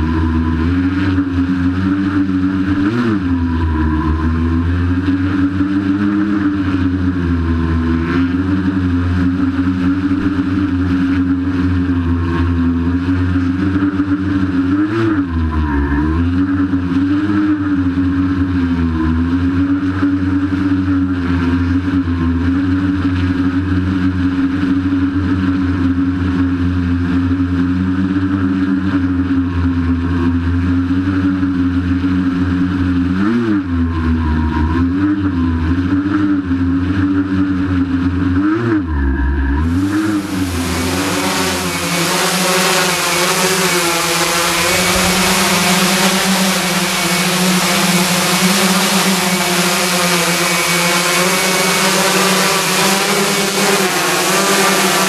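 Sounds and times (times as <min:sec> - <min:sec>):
drone motors buzzing: 0:00.0 - 0:55.0.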